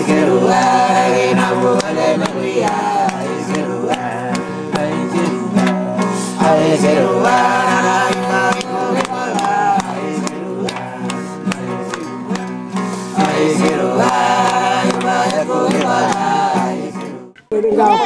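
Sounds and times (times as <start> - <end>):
person singing: 0.0 - 18.0
strummed acoustic guitar: 0.0 - 18.0.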